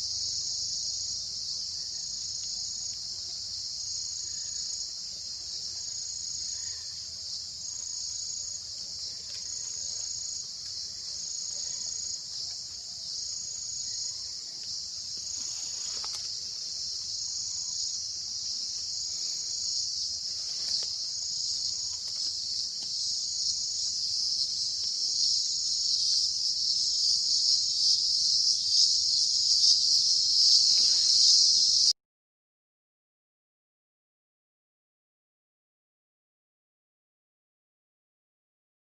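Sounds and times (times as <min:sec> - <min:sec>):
insects buzzing: 0:00.0 - 0:31.9
pulsing insect call: 0:00.0 - 0:31.9.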